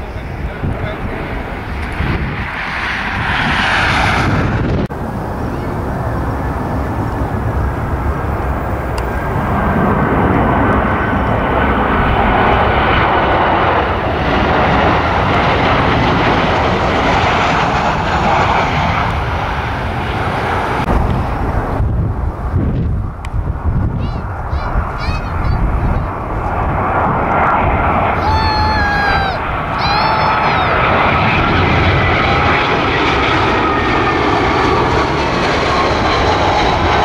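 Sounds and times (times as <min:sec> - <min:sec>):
high jet engine whine: 0:00.0 - 0:37.0
jet engines rushing: 0:00.0 - 0:37.0.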